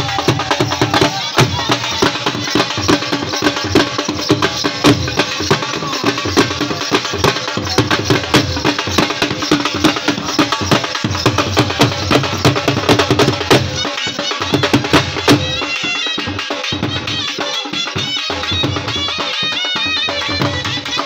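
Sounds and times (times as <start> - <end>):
fast drum beating: 0.0 - 21.0.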